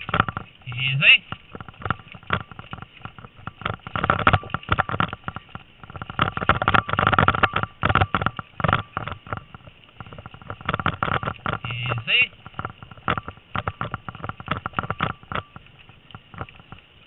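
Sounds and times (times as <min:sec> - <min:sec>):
bike rattling over bumpy trail: 0:00.0 - 0:17.0.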